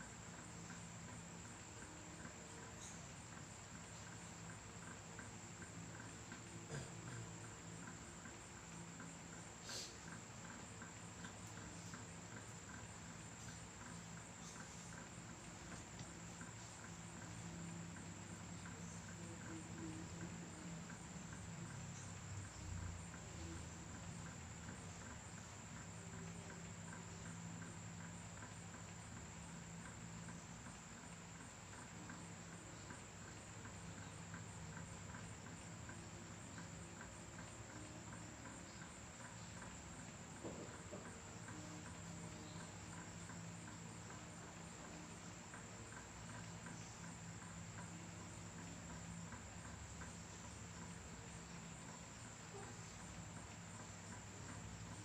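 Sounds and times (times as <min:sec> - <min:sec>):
cricket trilling: 0:00.0 - 0:55.0.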